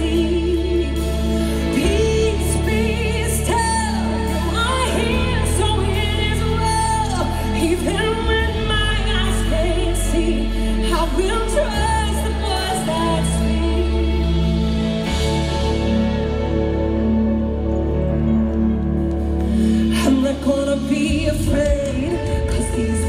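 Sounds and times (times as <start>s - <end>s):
person singing: 0.0s - 16.9s, 19.4s - 23.0s
live worship band: 0.0s - 23.0s.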